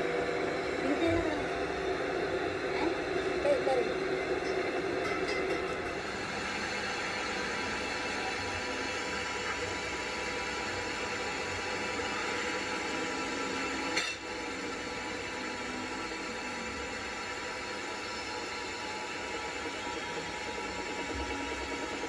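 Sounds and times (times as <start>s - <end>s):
lathe grinding noise: 0.0s - 22.0s.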